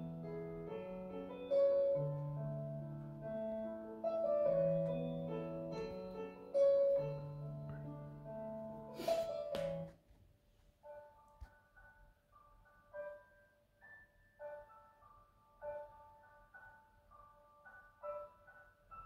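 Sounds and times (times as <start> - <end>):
slow gentle piano music: 0.0 - 10.1, 10.8 - 19.0.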